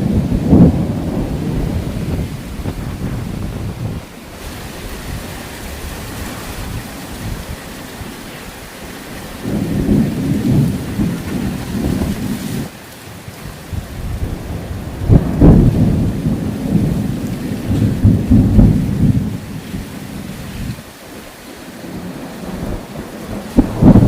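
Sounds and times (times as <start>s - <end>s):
thunder rumbling: 0.0s - 20.9s, 21.6s - 24.0s
heavy rain: 0.0s - 24.0s.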